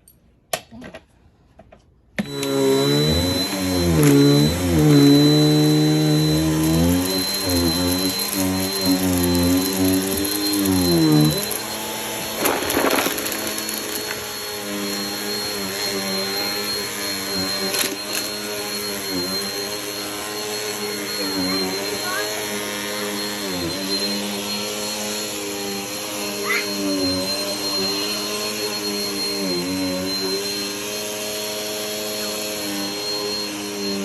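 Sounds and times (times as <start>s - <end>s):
vacuum cleaner running: 2.2s - 34.0s.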